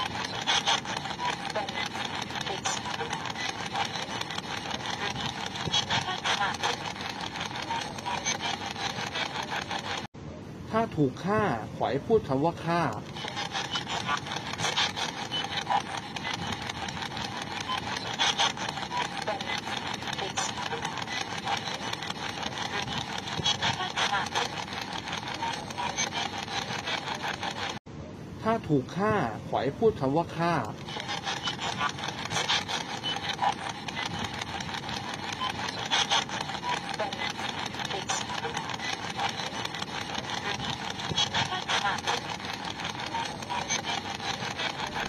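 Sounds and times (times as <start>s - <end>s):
choppy radio static bursts: 0.0s - 10.1s, 10.8s - 27.8s, 28.5s - 45.0s.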